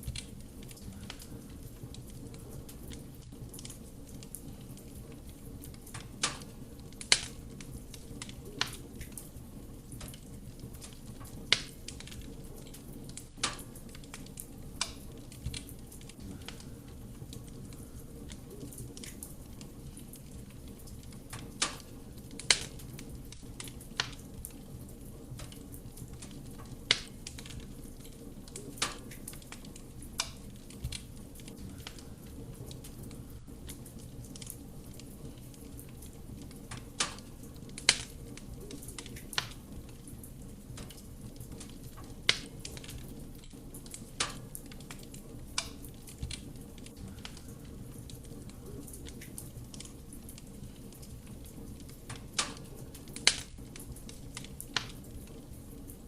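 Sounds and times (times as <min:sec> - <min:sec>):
fire crackling and popping: 0:00.0 - 0:56.0
loud snaps of burning logs: 0:00.0 - 0:56.0
low rumble of flames: 0:00.0 - 0:56.0.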